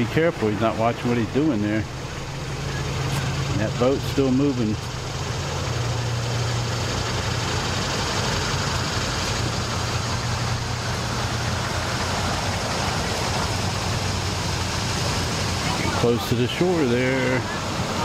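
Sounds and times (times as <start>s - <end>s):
motorboat engine idling: 0.0s - 18.0s.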